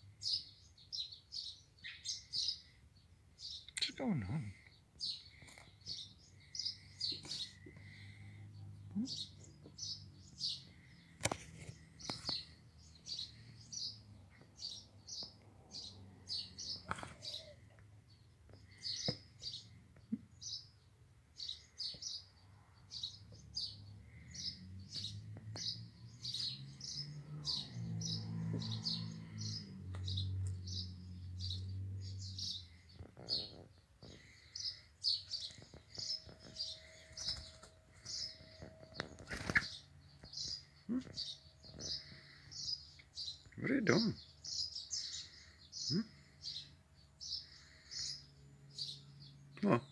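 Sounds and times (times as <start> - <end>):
bird chirping: 0.0 - 49.9.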